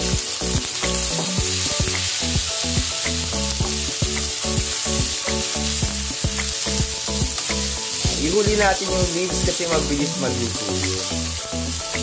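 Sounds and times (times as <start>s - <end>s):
background music with a beat: 0.0s - 12.0s
vegetables sizzling in a pan: 0.0s - 12.0s.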